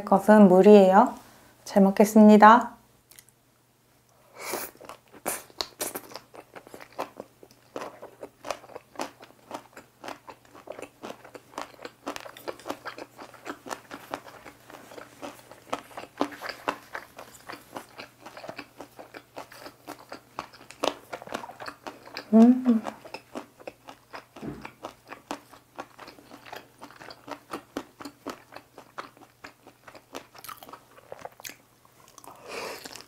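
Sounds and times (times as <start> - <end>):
crunchy chewing: 4.7 - 33.0.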